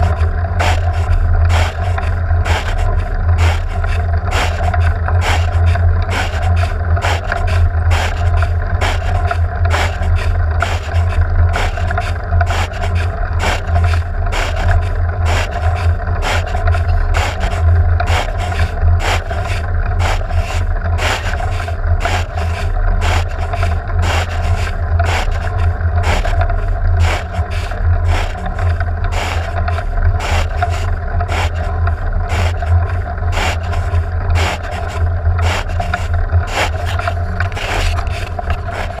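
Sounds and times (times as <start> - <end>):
engine and road drone: 0.0 - 39.0
sharp scraping knocks: 0.0 - 39.0.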